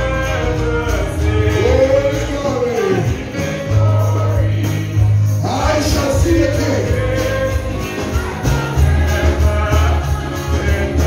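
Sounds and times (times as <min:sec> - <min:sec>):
band with prominent bass: 0:00.0 - 0:11.0
voices singing gospel: 0:00.0 - 0:11.0.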